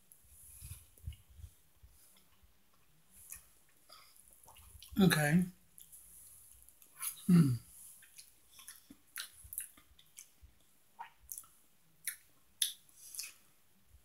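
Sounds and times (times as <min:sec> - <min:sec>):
person chewing wet food: 0:00.5 - 0:05.0, 0:05.6 - 0:13.5.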